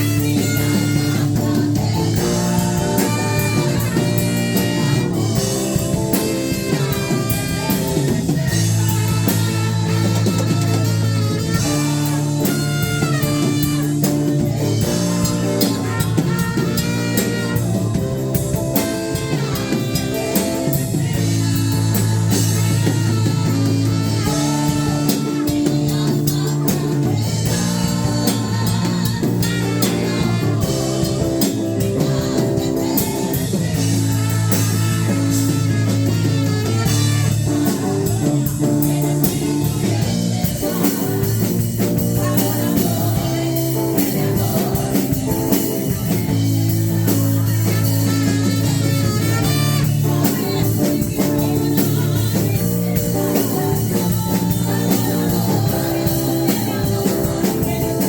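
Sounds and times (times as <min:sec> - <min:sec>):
drum kit: 0:00.0 - 0:58.0
electric guitar: 0:00.0 - 0:58.0
instrumental worship music: 0:00.0 - 0:58.0.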